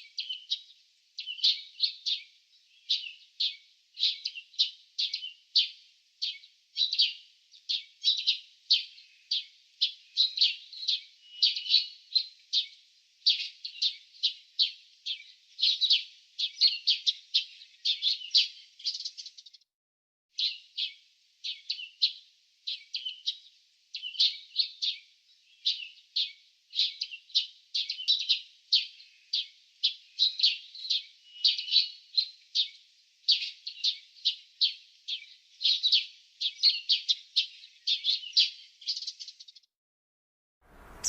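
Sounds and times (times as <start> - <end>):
songbirds chirping: 0.0 - 19.6, 20.3 - 39.7, 40.7 - 41.0.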